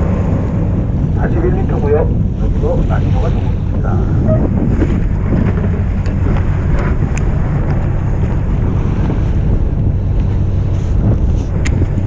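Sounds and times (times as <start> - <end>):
boat engine running: 0.0 - 12.0
water rushing past hull: 0.0 - 12.0
wind buffeting microphone: 0.0 - 12.0.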